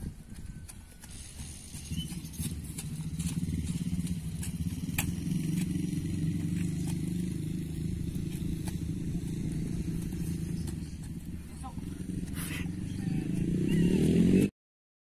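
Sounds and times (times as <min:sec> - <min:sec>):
engine running: 0:00.0 - 0:14.5.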